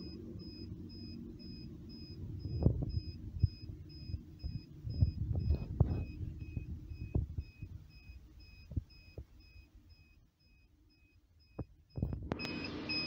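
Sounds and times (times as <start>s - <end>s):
faint electronic beeps: 0.0s - 13.0s.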